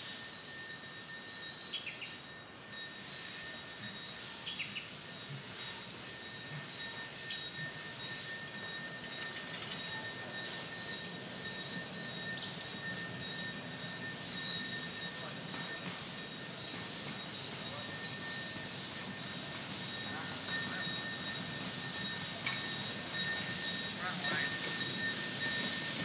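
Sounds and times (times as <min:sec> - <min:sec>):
pulsing hiss: 0:00.0 - 0:26.0
train wheels squealing: 0:00.0 - 0:26.0.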